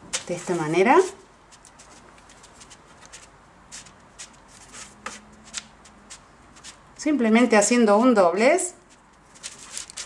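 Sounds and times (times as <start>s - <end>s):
soft rustling of pastry: 0.1s - 7.2s, 8.7s - 10.0s.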